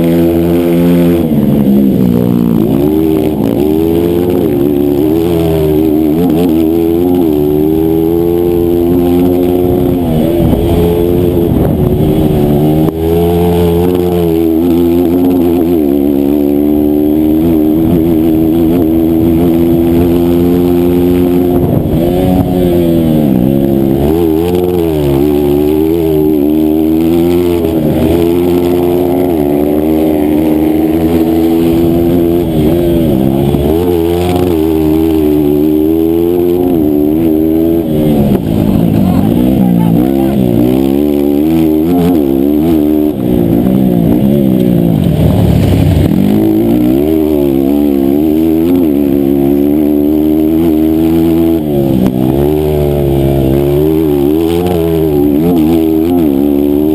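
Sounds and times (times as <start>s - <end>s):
motorcycle engine revving high: 0.0s - 56.9s.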